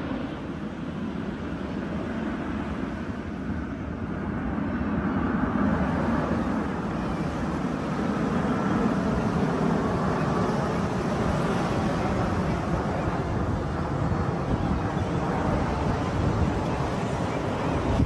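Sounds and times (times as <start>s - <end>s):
aircraft rumbling: 0.0s - 18.0s.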